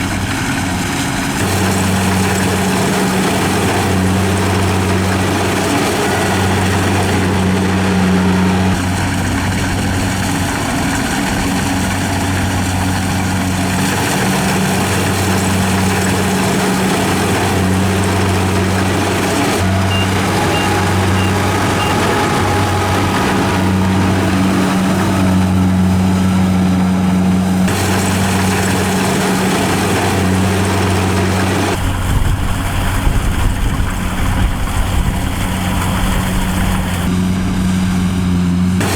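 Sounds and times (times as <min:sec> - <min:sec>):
diesel engine running: 0:00.0 - 0:38.9
engine knocks: 0:00.0 - 0:38.9.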